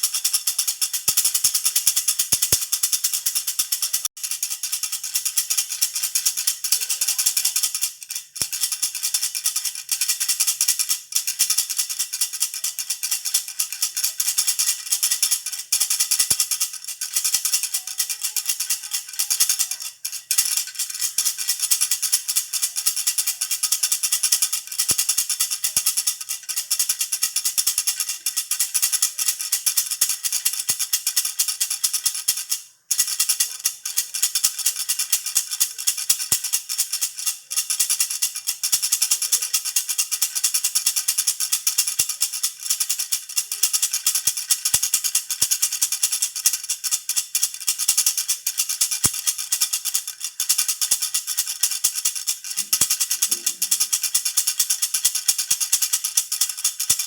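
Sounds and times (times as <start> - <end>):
rattle toy shaken: 0.0 - 57.0.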